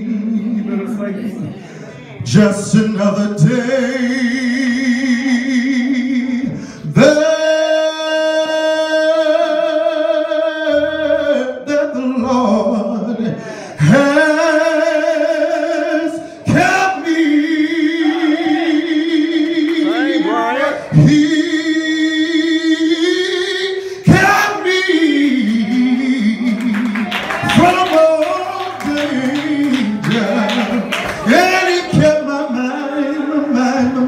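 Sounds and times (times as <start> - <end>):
man singing gospel song: 0.0 - 34.0.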